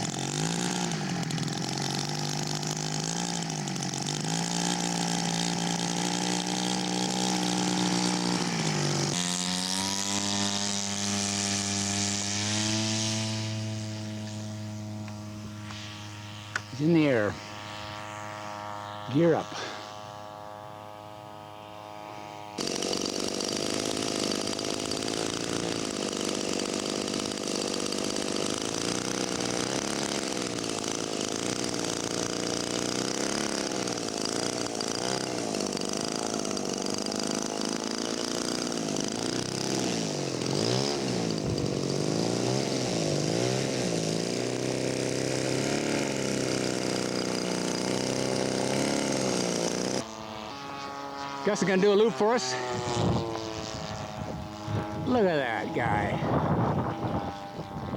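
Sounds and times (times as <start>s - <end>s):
model airplane engine: 0.0s - 57.9s.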